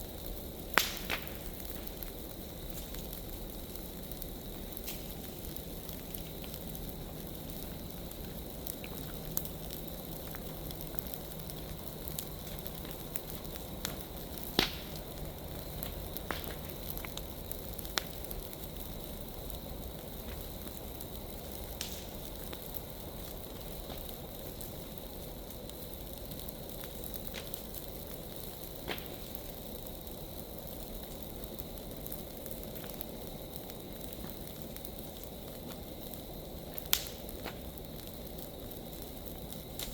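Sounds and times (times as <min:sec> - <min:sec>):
dry leaves burning: 0:00.0 - 0:39.9
fire crackles and pops: 0:00.0 - 0:39.9.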